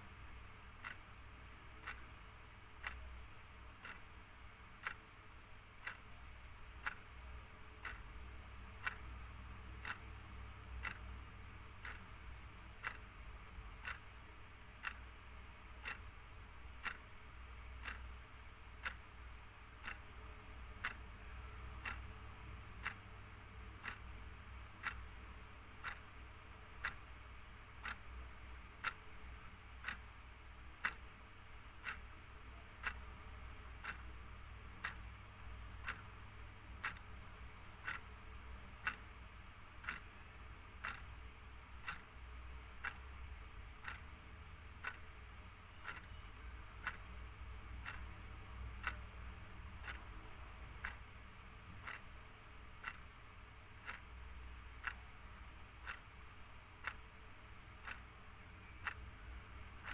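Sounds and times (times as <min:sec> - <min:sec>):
clock ticking: 0:00.0 - 0:59.9
faint low hum: 0:00.0 - 0:59.9.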